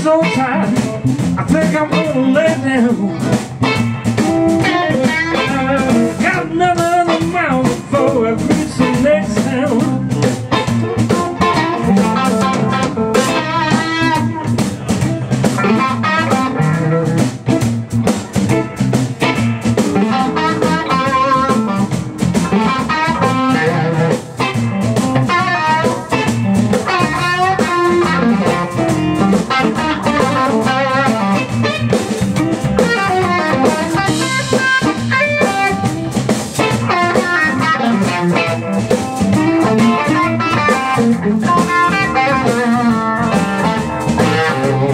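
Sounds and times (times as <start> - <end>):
drum kit: 0.0 - 44.9
electric guitar solo: 0.0 - 44.9.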